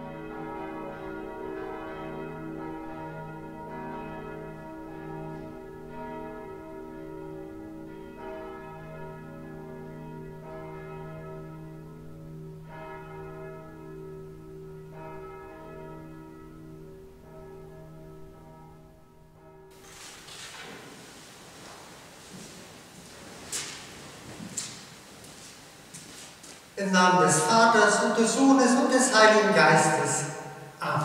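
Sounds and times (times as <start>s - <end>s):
church bells ringing: 0.0s - 19.8s, 25.7s - 31.0s.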